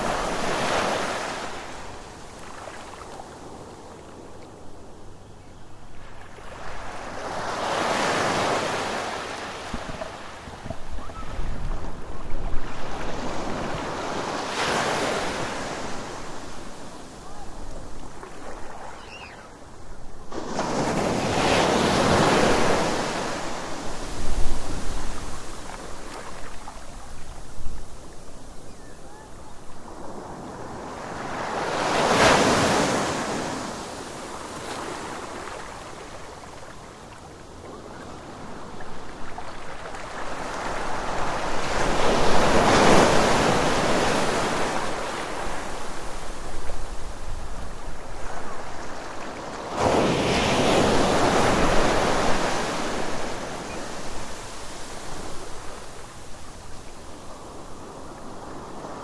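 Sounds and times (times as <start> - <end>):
waves breaking on a beach: 0.0 - 59.0.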